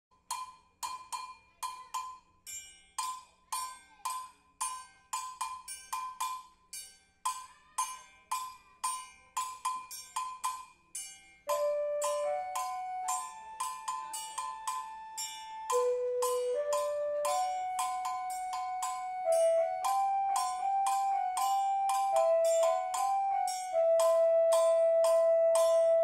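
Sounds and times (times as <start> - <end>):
ringing struck percussion: 0.2 - 26.0.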